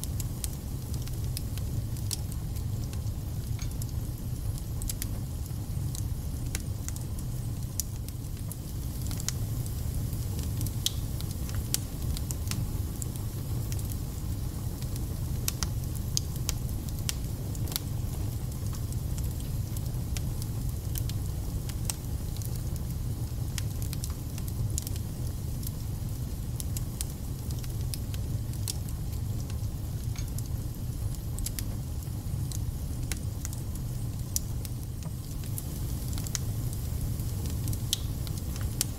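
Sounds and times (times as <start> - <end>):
fire crackling and popping: 0.0 - 38.9
fire rumbling: 0.0 - 38.9.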